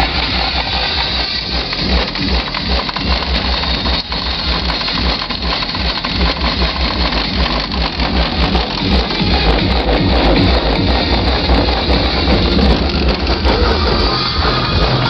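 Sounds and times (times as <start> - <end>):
electronic dance music from car stereo: 0.0 - 15.0.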